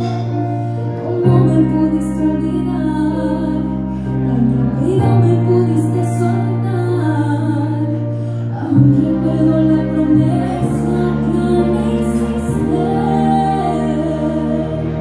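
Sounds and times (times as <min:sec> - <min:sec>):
slow song with singing voice: 0:00.0 - 0:15.0.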